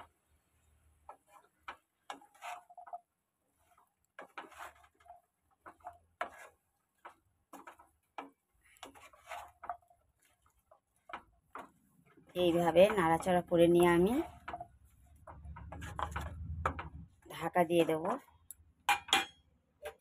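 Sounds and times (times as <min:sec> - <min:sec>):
wooden spatula scraping a pan: 0:00.0 - 0:18.5, 0:19.7 - 0:20.0.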